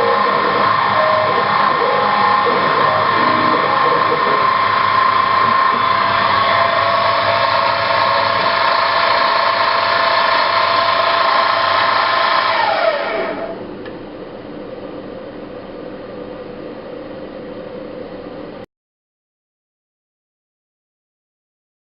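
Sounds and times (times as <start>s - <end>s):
milling machine spindle whine: 0.0s - 18.6s.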